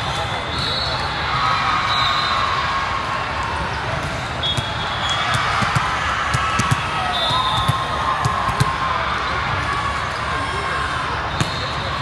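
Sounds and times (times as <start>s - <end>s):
murmur of crowd voices: 0.0s - 12.0s.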